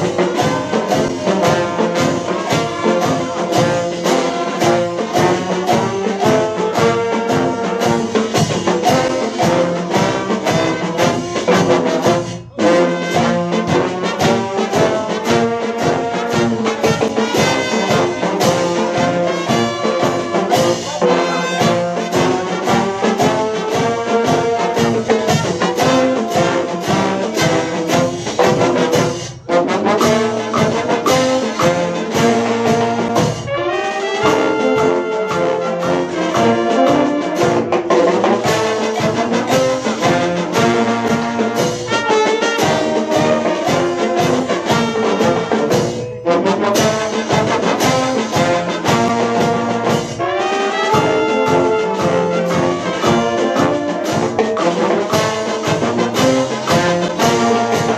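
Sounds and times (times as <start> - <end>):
brass band playing: 0.0 - 57.9
snare and bass drums: 0.0 - 57.9.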